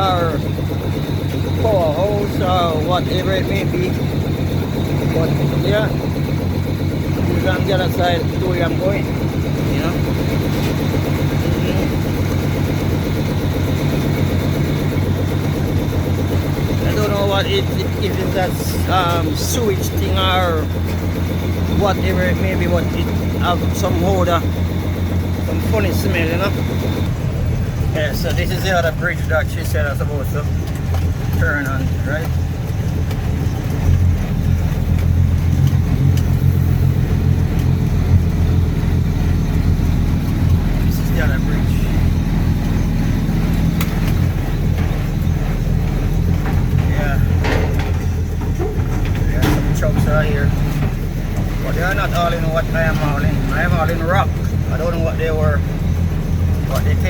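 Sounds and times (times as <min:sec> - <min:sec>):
vehicle engine low drone: 0:00.0 - 0:57.0.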